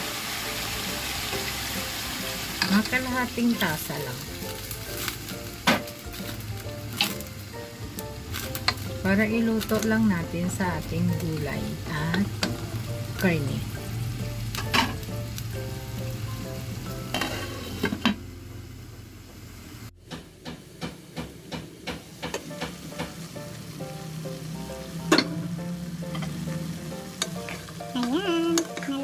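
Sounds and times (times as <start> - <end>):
food sizzling in a pot: 0.0 - 19.9, 20.5 - 29.0.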